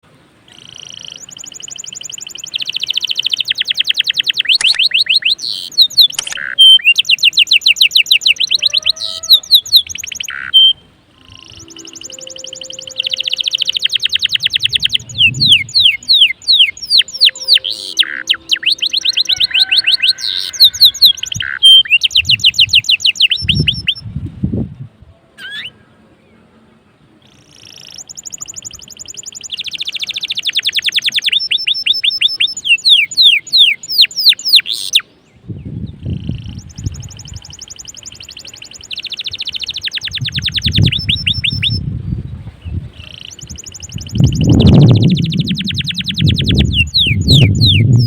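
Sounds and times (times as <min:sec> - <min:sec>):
canary singing trills: 0:00.5 - 0:24.1, 0:27.2 - 0:48.0.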